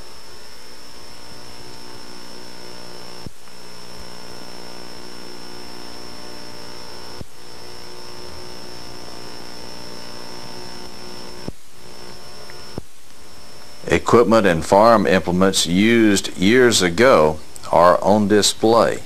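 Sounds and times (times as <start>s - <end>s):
electrical hum: 0.0s - 19.0s
tape hiss: 0.0s - 19.0s.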